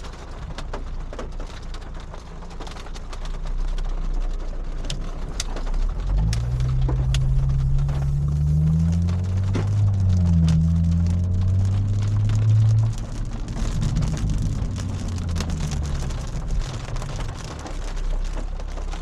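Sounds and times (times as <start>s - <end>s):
car engine drone accelerating: 0.0s - 19.0s
raindrops ticking on car: 0.0s - 19.0s.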